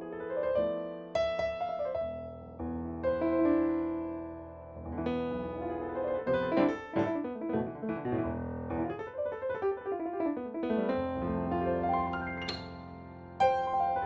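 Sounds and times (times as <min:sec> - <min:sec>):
fast piano improvisation: 0:00.0 - 0:14.0.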